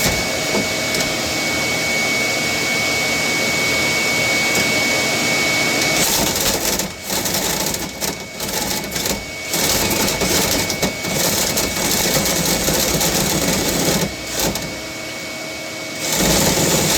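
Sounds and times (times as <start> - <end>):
vent cleaning machine rushing: 0.0 - 16.9.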